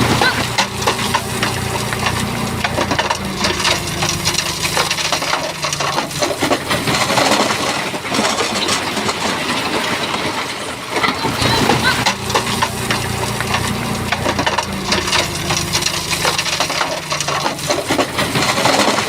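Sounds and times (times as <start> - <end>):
diesel engine running: 0.0 - 19.0
rocks clattering and grinding: 0.0 - 19.0.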